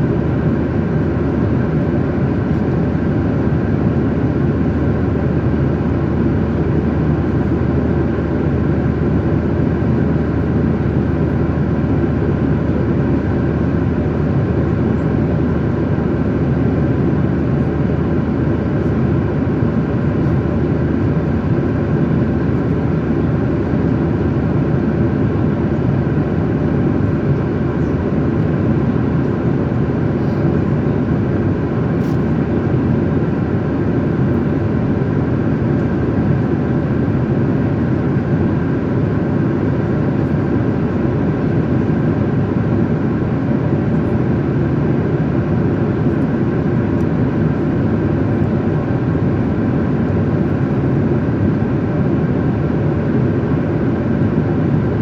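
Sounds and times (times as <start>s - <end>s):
jet engine hum: 0.0s - 55.0s.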